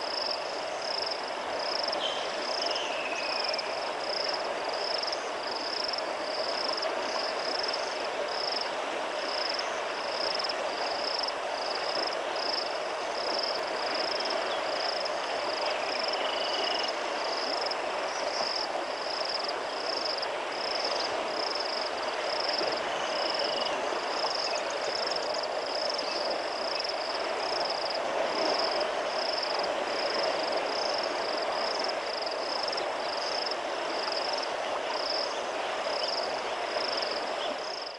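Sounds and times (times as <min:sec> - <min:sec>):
flowing river water: 0:00.0 - 0:37.9
insect chirping: 0:00.0 - 0:37.9.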